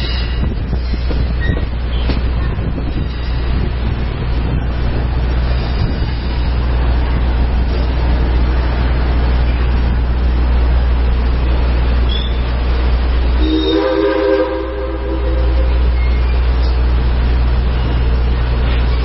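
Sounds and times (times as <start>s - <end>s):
steam train rumbling: 0.0s - 19.0s.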